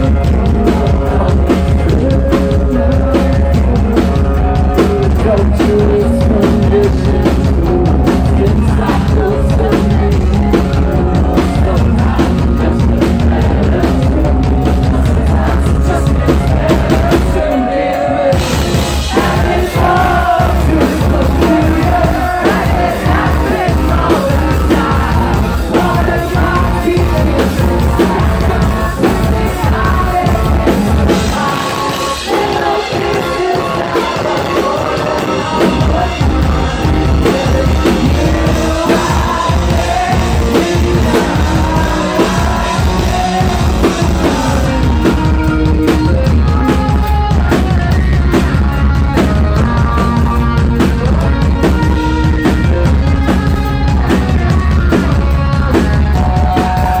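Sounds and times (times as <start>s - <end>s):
live rock band playing: 0.0s - 57.0s
man singing: 0.0s - 57.0s.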